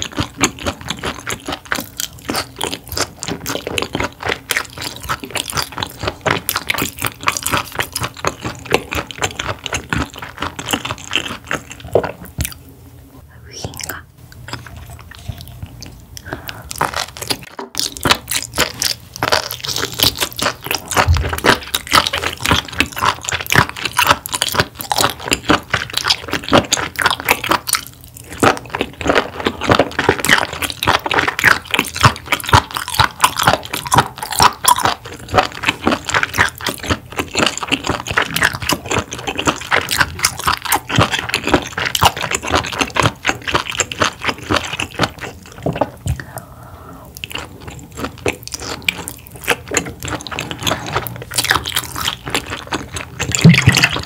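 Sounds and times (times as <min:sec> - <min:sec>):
crunchy chewing: 0:00.0 - 0:12.7, 0:13.7 - 0:54.0.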